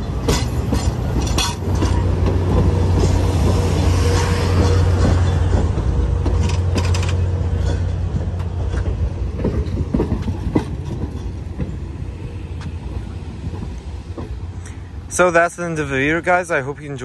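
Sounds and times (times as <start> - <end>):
railcars rumbling past: 0.0 - 17.0
wheels clacking over rail joints: 0.0 - 17.0.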